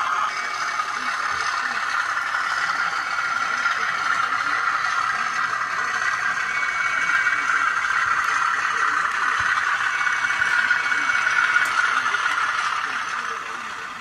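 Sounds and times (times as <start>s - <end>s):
locomotive engine through tiny speaker: 0.0s - 14.0s.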